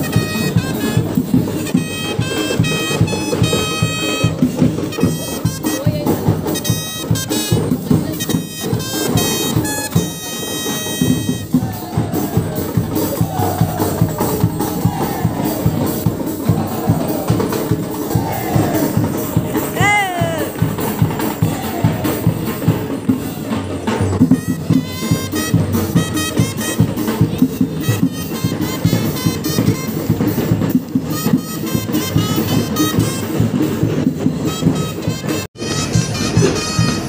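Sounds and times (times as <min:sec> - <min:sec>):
brass melody: 0:00.0 - 0:23.4, 0:24.2 - 0:37.0
marching drums: 0:00.0 - 0:37.0.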